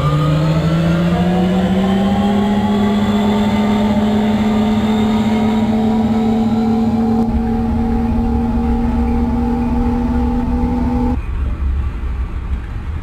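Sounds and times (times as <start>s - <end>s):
train motors whining: 0.0s - 11.2s
wheels rumbling on track: 0.0s - 13.0s.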